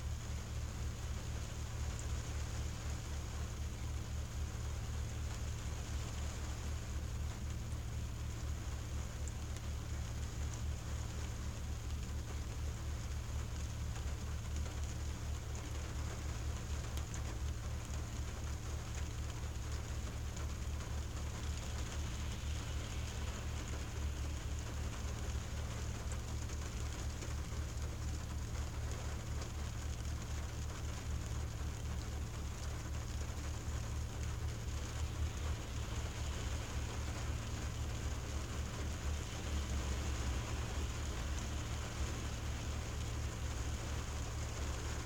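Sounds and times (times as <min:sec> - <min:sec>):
faint raindrop ticks: 0:00.0 - 0:45.0
rain on car windshield: 0:00.0 - 0:45.0.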